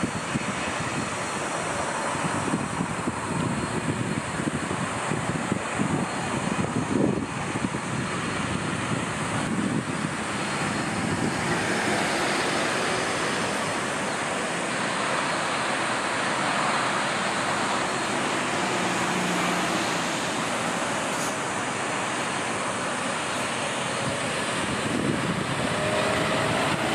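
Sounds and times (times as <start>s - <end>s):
jet engines rushing hiss: 0.0s - 26.9s.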